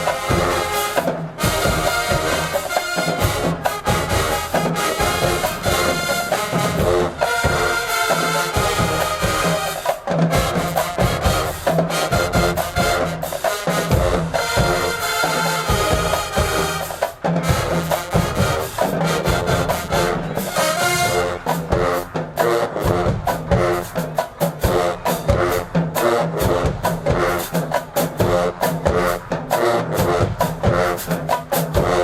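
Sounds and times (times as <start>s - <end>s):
brass section playing: 0.0s - 32.0s
drumline: 0.0s - 32.0s.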